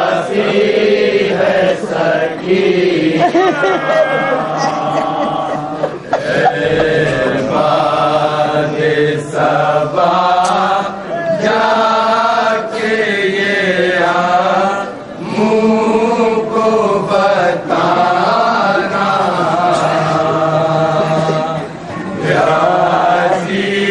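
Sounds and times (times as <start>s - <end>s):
men chanting a lament: 0.0s - 23.9s.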